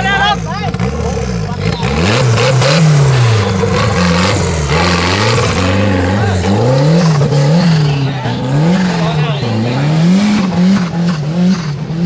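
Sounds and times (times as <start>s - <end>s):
off-road buggy engine revving: 0.0s - 12.0s.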